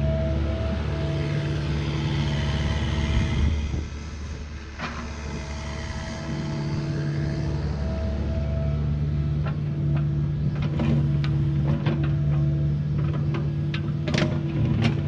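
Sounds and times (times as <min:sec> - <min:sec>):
excavator engine and hydraulics humming: 0:00.0 - 0:15.0.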